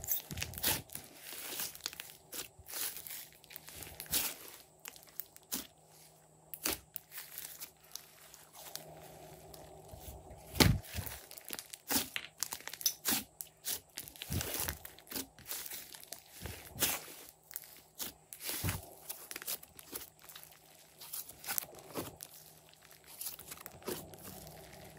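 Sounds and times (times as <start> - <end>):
slime popping and crackling: 0.0 - 5.7, 6.5 - 9.8, 10.5 - 24.9.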